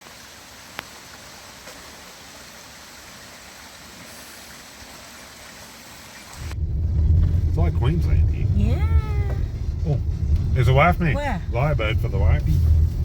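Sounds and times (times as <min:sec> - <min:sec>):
running water: 0:00.0 - 0:13.0.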